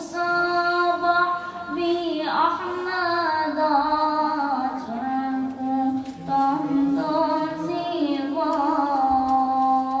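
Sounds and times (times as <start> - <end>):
boy singing unaccompanied: 0.0 - 10.0.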